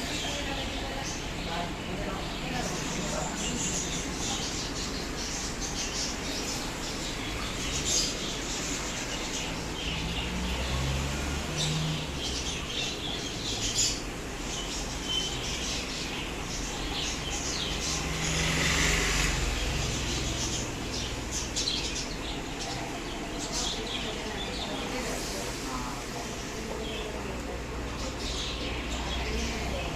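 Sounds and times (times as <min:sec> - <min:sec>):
birds chirping: 0:00.0 - 0:29.9
steady outdoor noise: 0:00.0 - 0:29.9.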